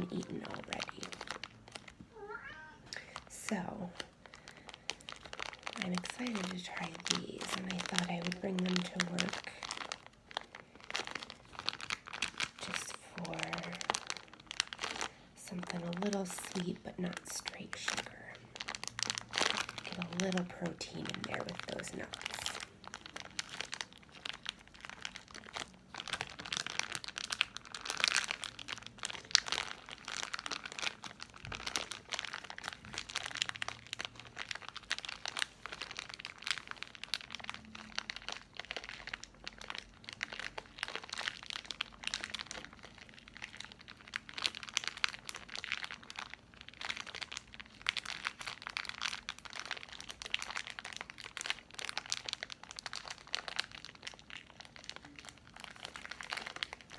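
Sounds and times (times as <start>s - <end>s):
plastic bag crinkling: 0.0s - 56.9s.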